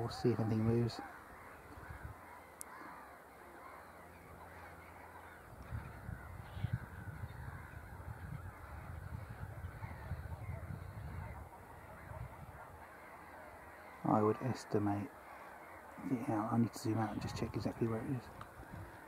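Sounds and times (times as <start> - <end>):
distant birds calling: 0.0 - 19.0.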